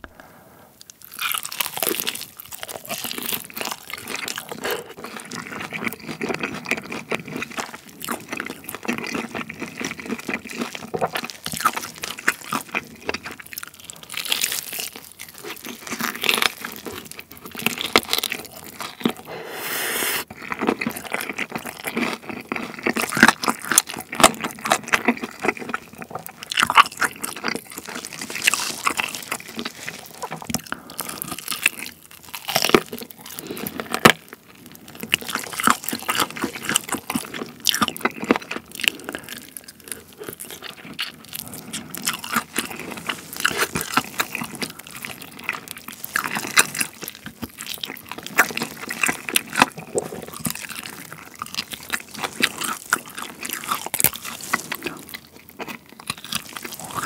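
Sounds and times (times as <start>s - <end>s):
crunching fried chicken: 0.8s - 19.3s, 20.2s - 57.0s.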